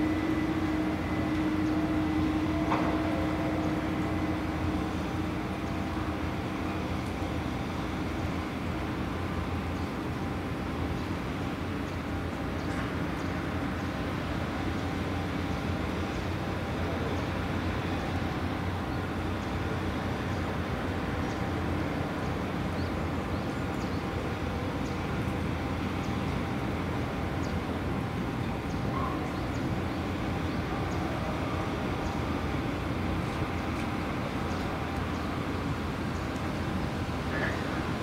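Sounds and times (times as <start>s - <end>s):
crane diesel drone: 0.0s - 38.0s.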